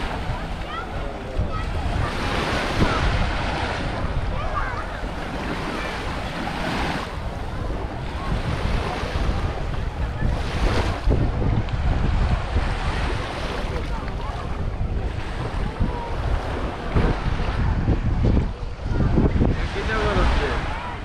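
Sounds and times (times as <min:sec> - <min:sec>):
small waves washing on sand: 0:00.0 - 0:21.0
wind buffeting microphone: 0:00.0 - 0:21.0.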